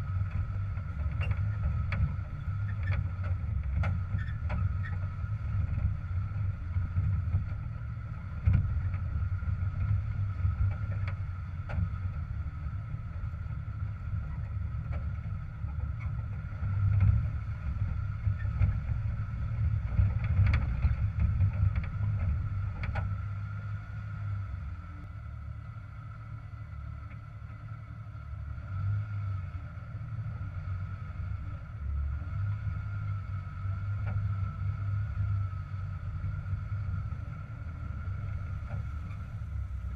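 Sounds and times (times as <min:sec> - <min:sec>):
car engine running low: 0:00.0 - 0:39.9
thin steady whine: 0:00.0 - 0:39.9.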